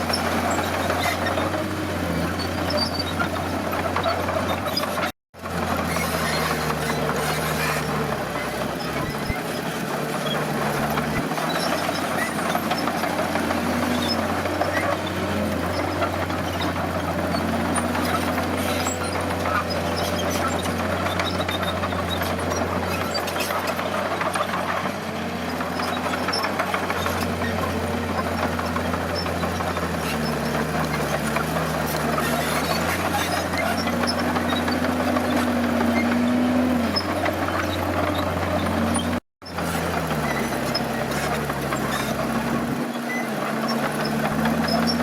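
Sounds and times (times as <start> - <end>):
bulldozer diesel engine under load: 0.0 - 45.0.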